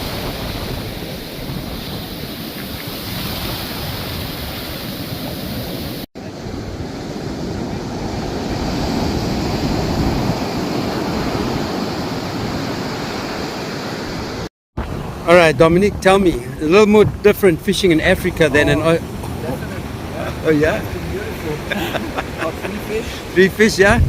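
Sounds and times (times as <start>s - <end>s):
wind buffeting microphone: 0.0s - 13.4s, 14.8s - 24.0s
ocean surf breaking: 0.0s - 24.0s.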